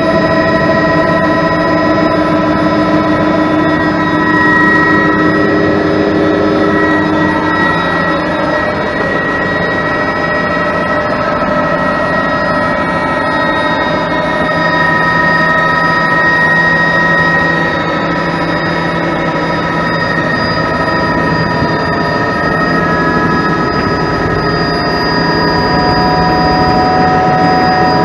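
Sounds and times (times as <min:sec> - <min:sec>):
helicopter engine whine: 0:00.0 - 0:28.0
rotor and airflow rushing: 0:00.0 - 0:28.0.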